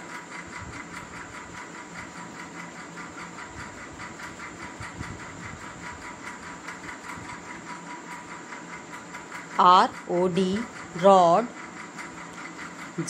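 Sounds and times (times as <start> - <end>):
machine hum and hiss: 0.0 - 13.0.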